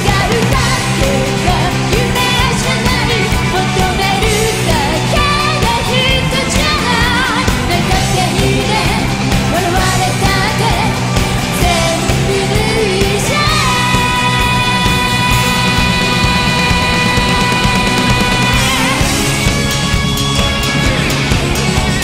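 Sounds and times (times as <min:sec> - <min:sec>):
woman singing lead vocal: 0:00.0 - 0:19.5
pop-rock band playing: 0:00.0 - 0:22.0.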